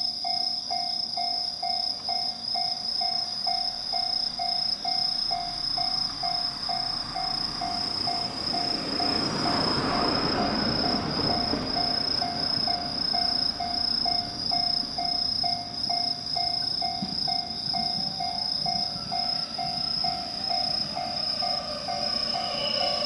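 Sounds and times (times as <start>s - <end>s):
electric train approaching: 0.0s - 23.0s
insects chirping: 0.0s - 23.0s.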